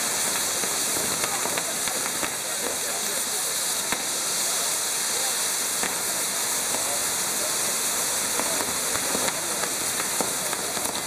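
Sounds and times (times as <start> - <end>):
firework crackles: 0.0 - 11.0
firework wheel hissing: 0.0 - 11.0.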